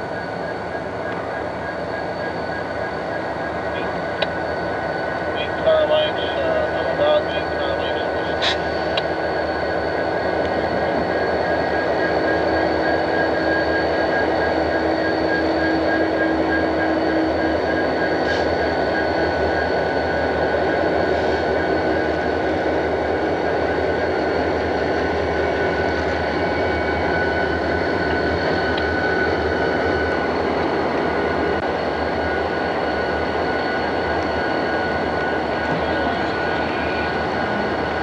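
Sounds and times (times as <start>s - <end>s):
freight train rumbling past: 0.0s - 38.0s
thin steady whine: 0.0s - 38.0s.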